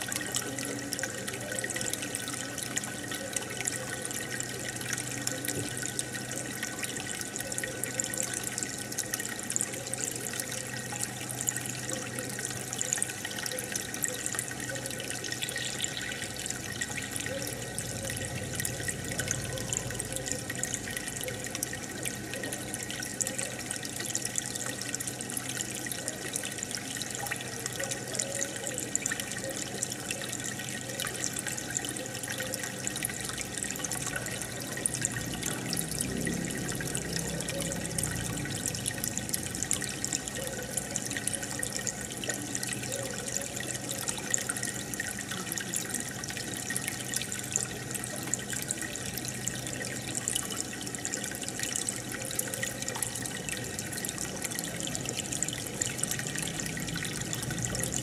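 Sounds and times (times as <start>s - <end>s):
aquarium water bubbling: 0.0s - 58.0s.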